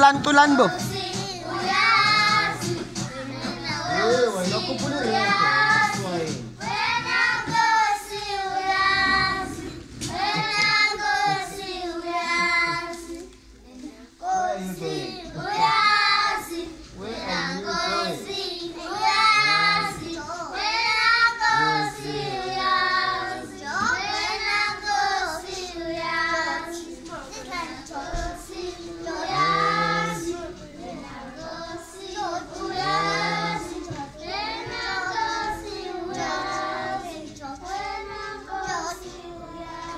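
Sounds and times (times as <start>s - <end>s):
children singing: 0.6s - 39.9s.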